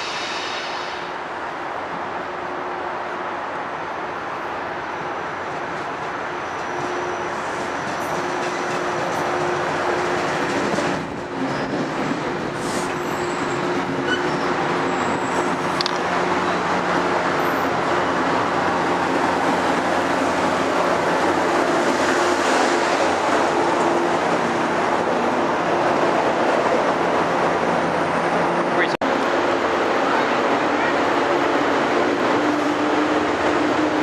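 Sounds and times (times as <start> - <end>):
train wheels rumbling on rails: 4.8 - 34.0.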